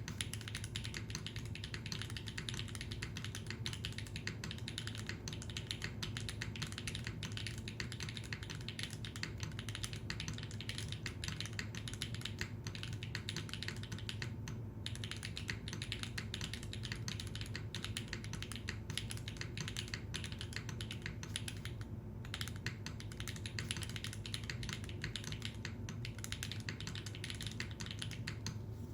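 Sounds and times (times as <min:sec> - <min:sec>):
fast typing on mechanical keyboard: 0:00.0 - 0:28.6
steady low hum: 0:00.0 - 0:28.9.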